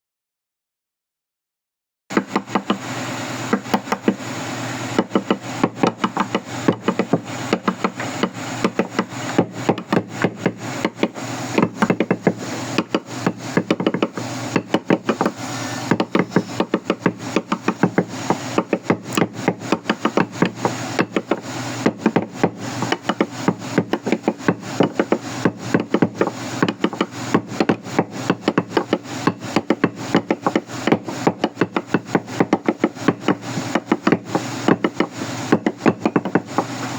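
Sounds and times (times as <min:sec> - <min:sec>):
wood being struck: 0:02.1 - 0:02.8, 0:03.5 - 0:04.2, 0:05.0 - 0:36.7.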